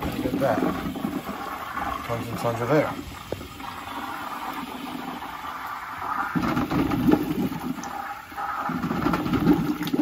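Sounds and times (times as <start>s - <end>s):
hose gushing water into bucket: 0.0s - 10.0s.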